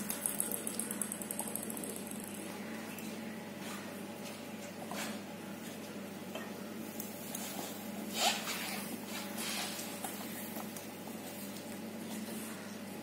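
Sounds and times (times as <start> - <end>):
room tone hum: 0.0 - 13.0.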